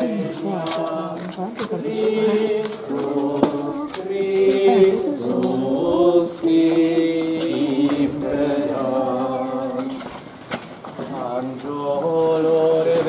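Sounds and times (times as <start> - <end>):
voices singing a hymn: 0.0 - 13.0.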